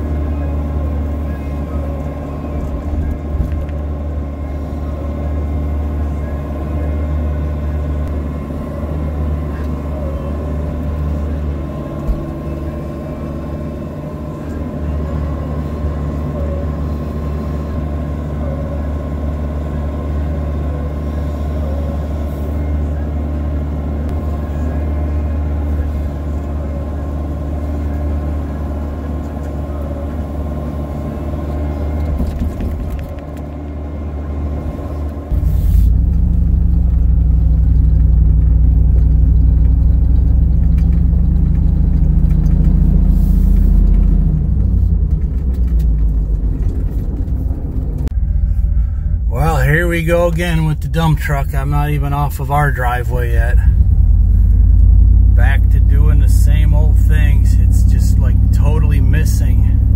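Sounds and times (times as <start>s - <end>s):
dump truck engine driving: 0.0s - 59.9s
excavator diesel engine running: 0.0s - 59.9s.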